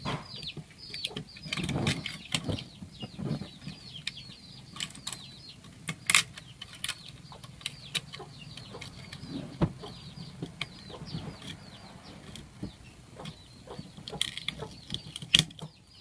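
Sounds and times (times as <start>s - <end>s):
birds chirping: 0.0s - 16.0s
sharp clicks and knocks: 0.0s - 16.0s.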